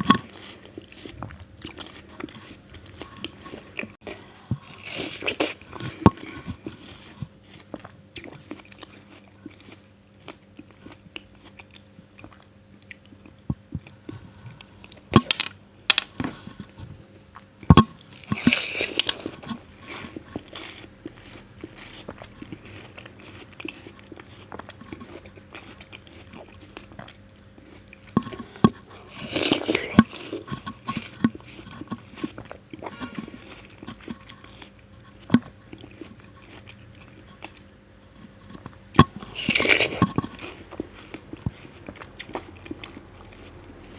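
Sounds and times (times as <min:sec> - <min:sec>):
wet crunchy chewing: 0:00.0 - 0:43.9.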